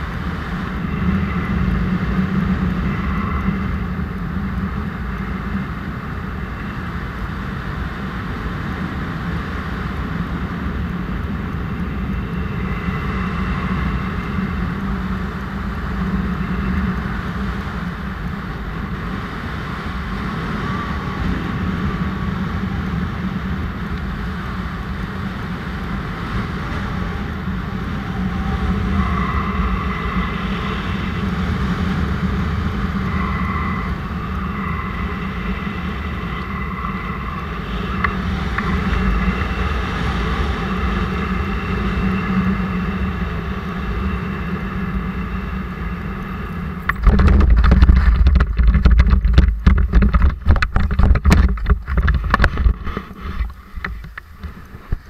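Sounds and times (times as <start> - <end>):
paramotor engine and propeller: 0.0 - 55.0
wind on microphone: 0.0 - 55.0.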